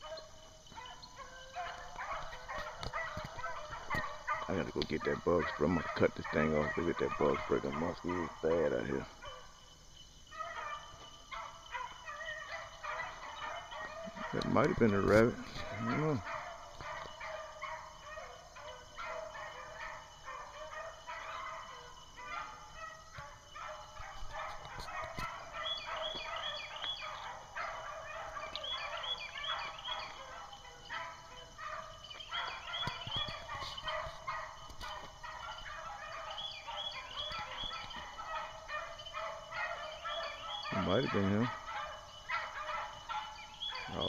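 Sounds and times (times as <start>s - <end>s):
hounds baying: 0.0s - 44.0s.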